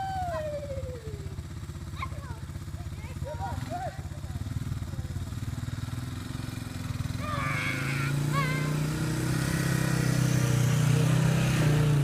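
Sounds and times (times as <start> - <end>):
three-wheeler engine running: 0.0 - 12.0.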